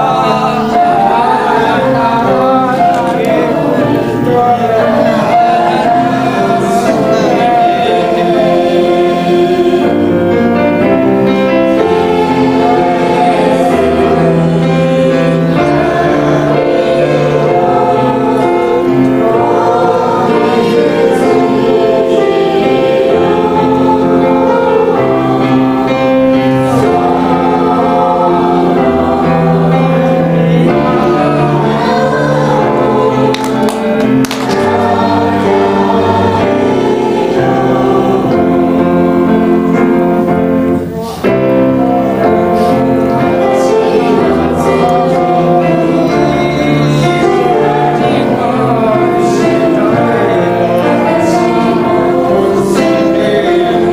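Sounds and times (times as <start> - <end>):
accompaniment holding low notes: 0.0 - 53.9
choir singing worship song: 0.0 - 53.9.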